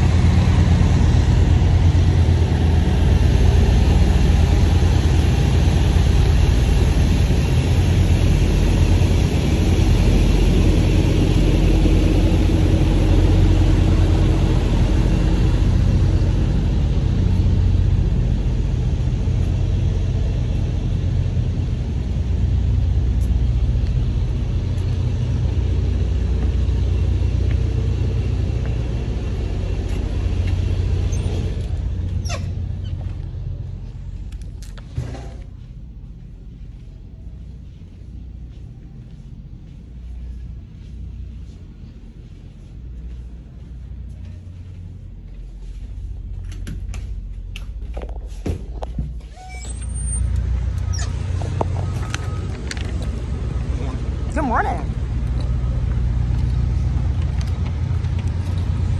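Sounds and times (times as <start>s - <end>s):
diesel truck engine rumbling: 0.0s - 58.9s.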